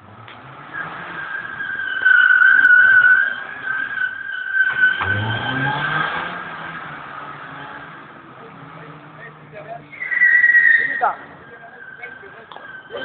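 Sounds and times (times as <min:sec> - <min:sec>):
car engine revving: 0:00.0 - 0:13.0
tires squealing on concrete: 0:00.0 - 0:13.0.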